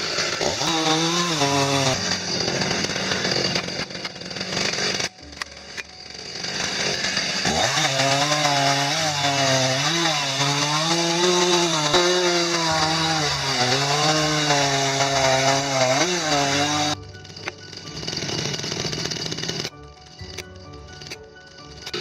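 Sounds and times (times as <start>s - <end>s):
chainsaw cutting through wood: 0.0s - 22.0s.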